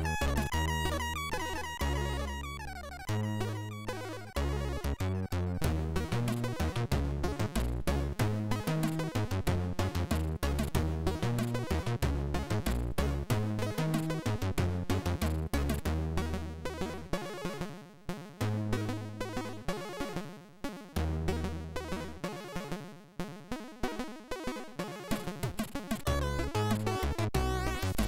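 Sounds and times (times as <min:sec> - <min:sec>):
fast chiptune music: 0:00.0 - 0:17.7, 0:18.7 - 0:28.0.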